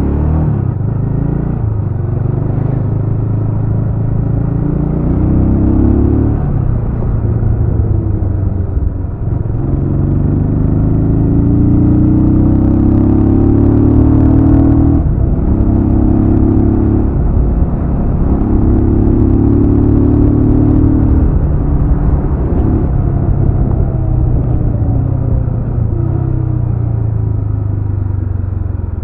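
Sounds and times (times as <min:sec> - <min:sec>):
motorcycle engine running: 0:00.7 - 0:29.0.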